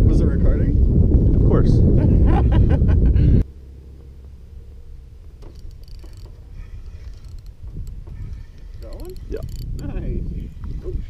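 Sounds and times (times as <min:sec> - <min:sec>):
wind buffeting microphone: 0:00.0 - 0:03.5, 0:04.6 - 0:11.0.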